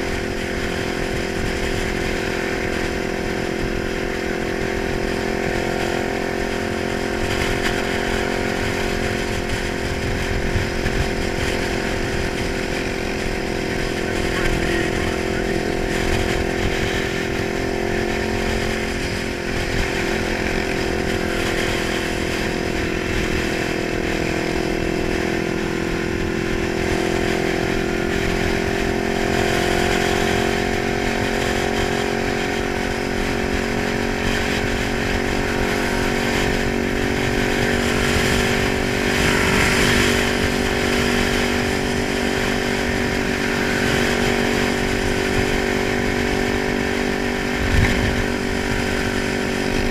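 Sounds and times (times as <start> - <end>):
motorcycle engine running at high revs: 0.0 - 49.9.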